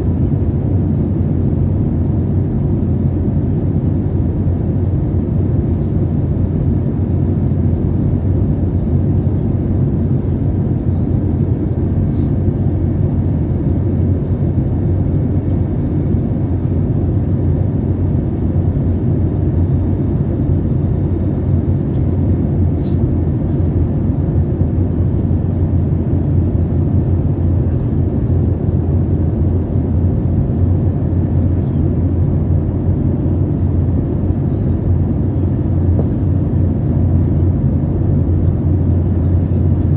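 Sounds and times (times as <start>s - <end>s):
jet engine rumble and airflow: 0.0s - 39.9s.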